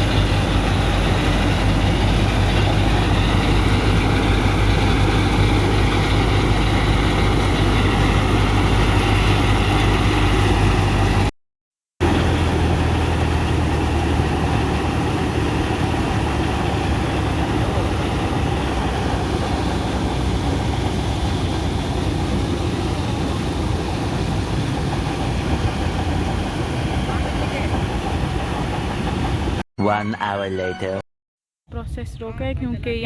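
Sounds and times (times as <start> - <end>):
threshing machine hum and clatter: 0.0 - 11.3, 12.0 - 29.0.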